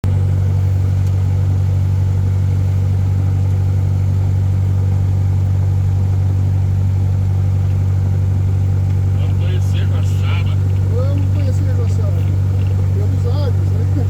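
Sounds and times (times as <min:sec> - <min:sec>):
airplane engine drone: 0:00.0 - 0:14.0.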